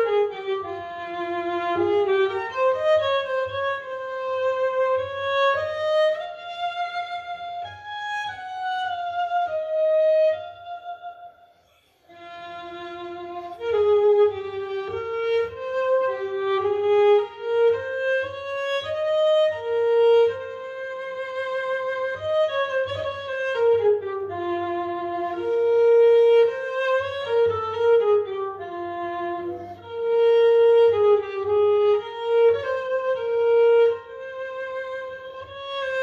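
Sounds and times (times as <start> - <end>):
solo cello melody: 0.0 - 36.0.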